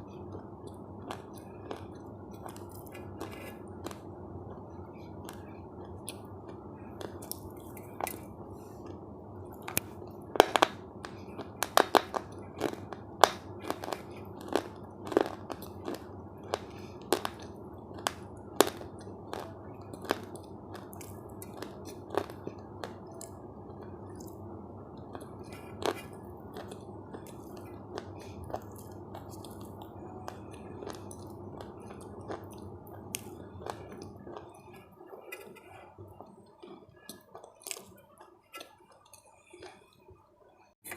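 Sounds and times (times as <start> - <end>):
chewing crunchy food: 0.0 - 40.2.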